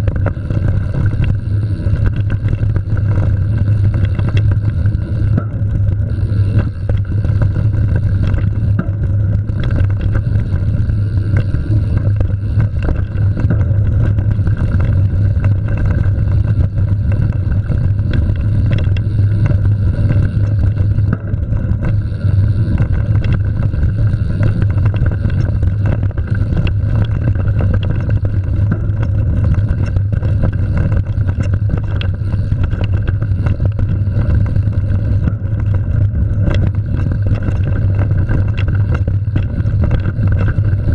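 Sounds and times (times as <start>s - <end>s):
bike clicks and rattles: 0.0s - 40.9s
tyres rumbling on dirt trail: 0.0s - 40.9s.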